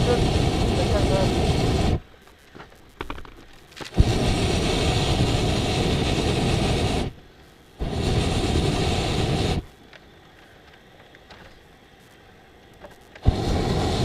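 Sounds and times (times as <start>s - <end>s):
propane burner roaring: 0.0s - 14.0s.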